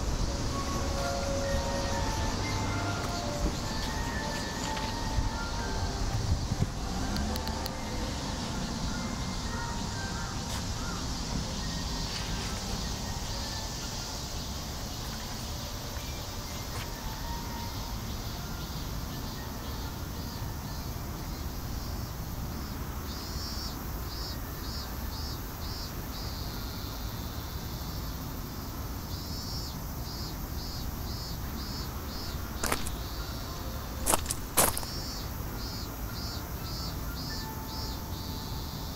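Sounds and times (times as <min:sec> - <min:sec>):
outdoor background noise: 0:00.0 - 0:38.9.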